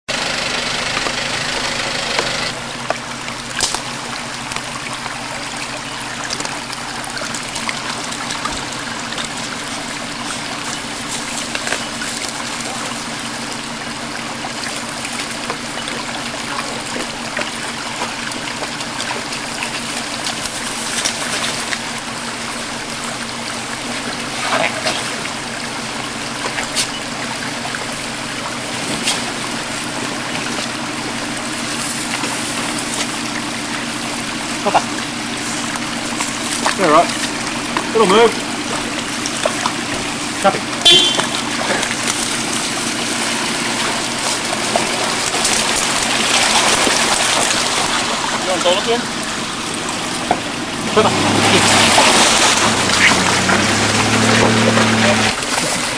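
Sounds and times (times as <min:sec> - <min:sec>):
vehicle engine running low: 0:00.0 - 0:55.9
creek trickling over rocks: 0:00.1 - 0:55.9.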